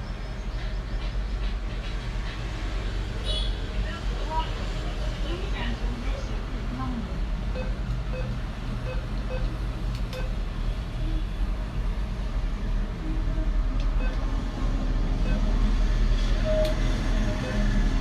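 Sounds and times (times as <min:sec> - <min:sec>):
low rumble of motor traffic: 0:00.0 - 0:18.0.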